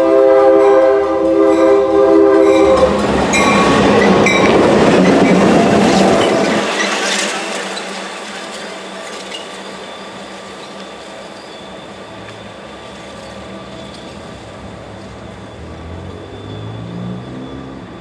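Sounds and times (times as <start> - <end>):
diesel locomotive engine hum: 0.0 - 18.0
train rolling past: 0.0 - 18.0.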